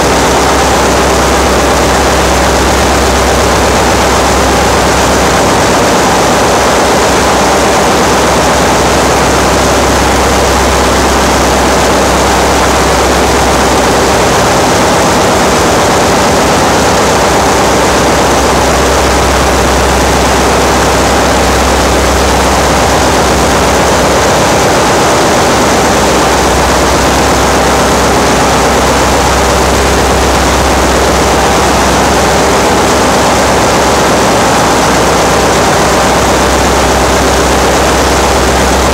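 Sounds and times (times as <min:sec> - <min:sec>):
engine-room machinery drone: 0:00.0 - 0:38.9.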